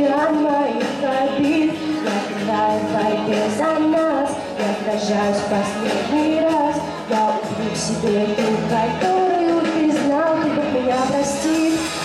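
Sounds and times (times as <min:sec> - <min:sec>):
backing track: 0:00.0 - 0:12.0
woman singing pop song: 0:00.0 - 0:12.0.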